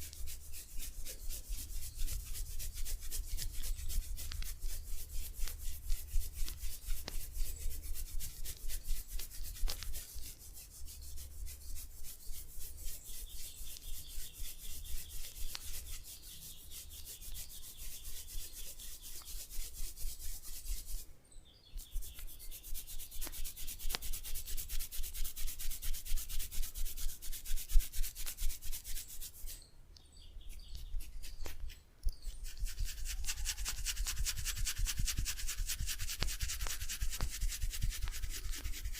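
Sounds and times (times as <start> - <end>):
massage strokes rubbing skin: 0.0 - 21.1, 21.8 - 29.6, 30.5 - 38.9.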